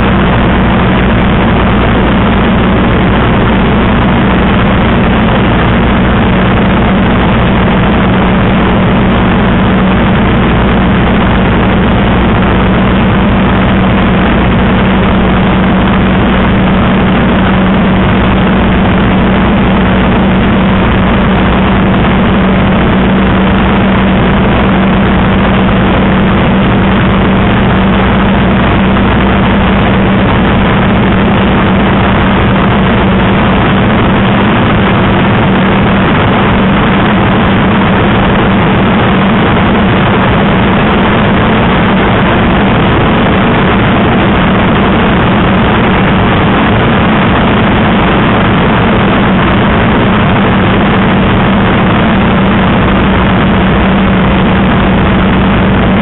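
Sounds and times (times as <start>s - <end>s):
aircraft engine deep hum: 0.0s - 56.0s
propeller and slipstream rushing hiss: 0.0s - 56.0s.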